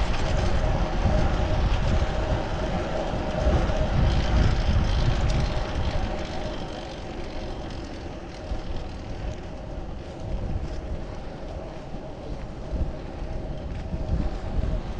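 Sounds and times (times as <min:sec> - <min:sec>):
wind rumble on microphone: 0:00.0 - 0:14.9.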